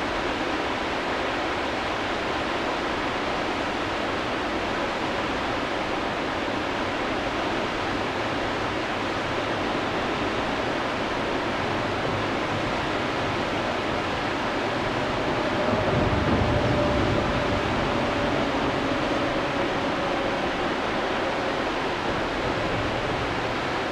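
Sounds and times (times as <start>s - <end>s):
river rapids rushing: 0.0s - 23.9s.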